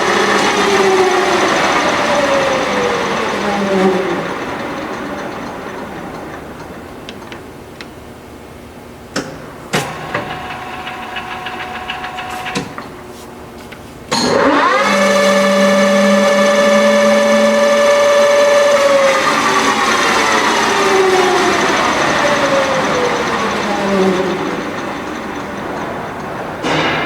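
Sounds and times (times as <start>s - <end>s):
lathe coasting down: 0.0s - 8.6s, 9.7s - 27.0s
lathe gear whine: 0.0s - 27.0s.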